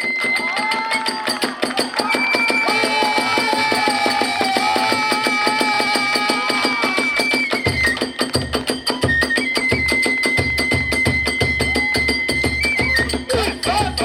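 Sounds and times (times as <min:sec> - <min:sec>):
bamboo flute melody: 0:00.0 - 0:14.0.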